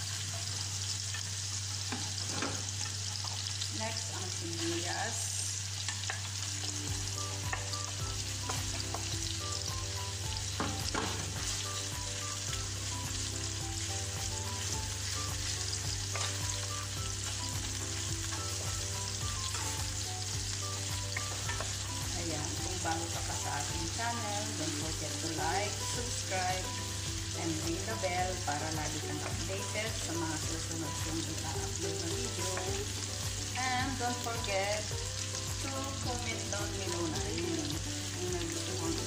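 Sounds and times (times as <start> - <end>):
oil sizzling in frying pan: 0.0 - 39.0.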